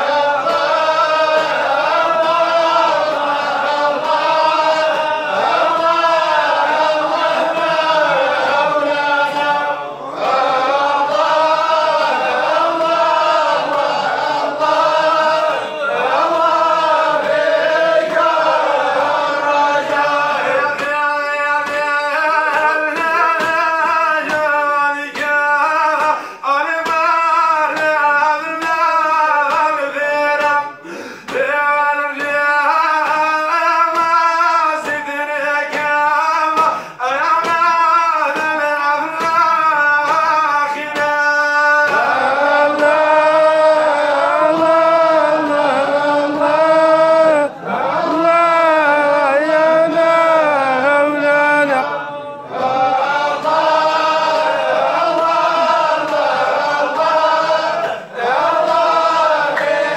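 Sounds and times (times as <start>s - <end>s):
men singing devotional chant: 0.0s - 59.9s.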